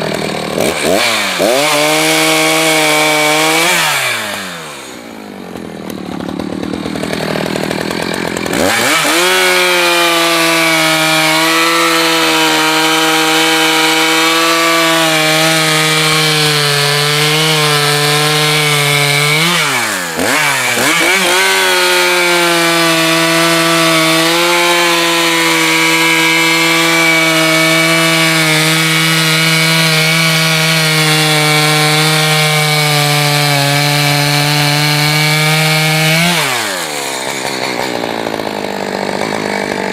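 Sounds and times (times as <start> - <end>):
chainsaw cutting firewood: 0.0 - 39.9.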